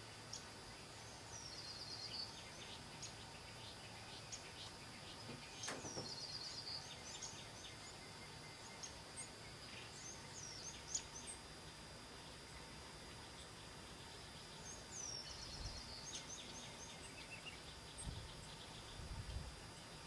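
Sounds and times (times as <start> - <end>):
songbirds singing and chirping: 0.0 - 20.0.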